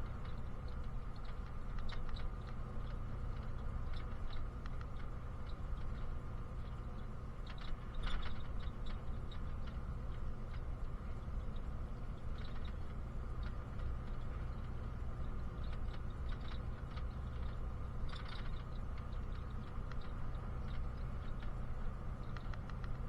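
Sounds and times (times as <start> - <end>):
bus engine rumble: 0.0 - 23.0
bus interior rattles and clicks: 0.0 - 23.0.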